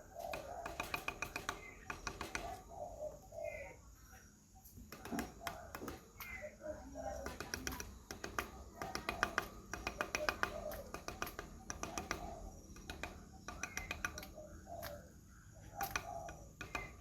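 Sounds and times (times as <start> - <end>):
woodpecker clicking calls: 0.0 - 3.8, 4.7 - 17.0
woodpecker low call notes: 0.0 - 3.8, 4.9 - 17.0.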